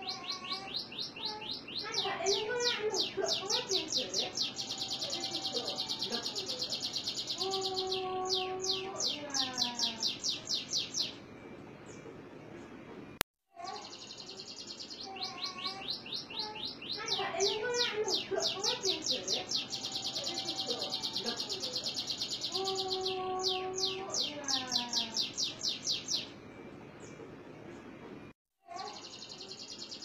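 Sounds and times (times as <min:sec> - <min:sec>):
canary singing trills: 0:00.0 - 0:12.0, 0:13.6 - 0:26.4, 0:28.7 - 0:30.0.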